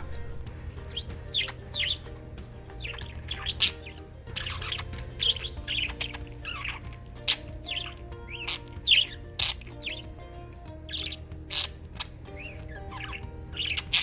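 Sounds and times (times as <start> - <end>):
budgie chirping and chattering: 0.0 - 14.0.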